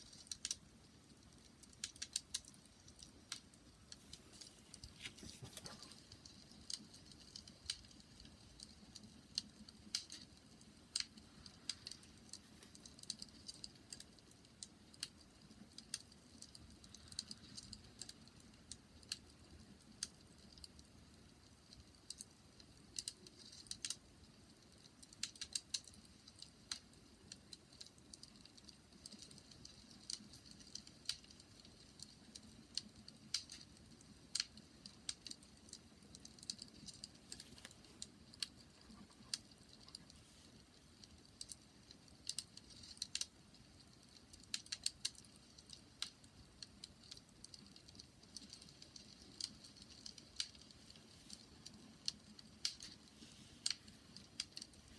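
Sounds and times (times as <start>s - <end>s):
bonfire crackling: 0.0s - 54.9s.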